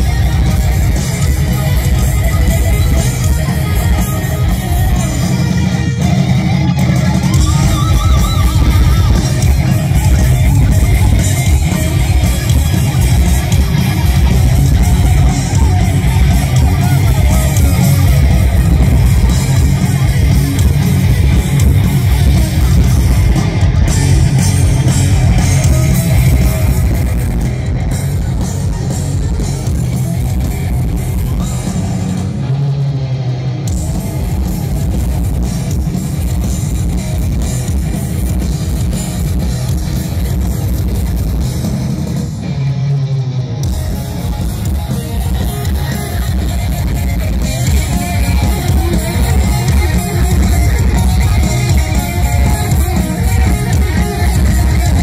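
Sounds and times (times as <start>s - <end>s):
distorted electric guitar lead: 0.0s - 55.0s
heavy metal band playing live: 0.0s - 55.0s
stadium crowd: 0.0s - 55.0s.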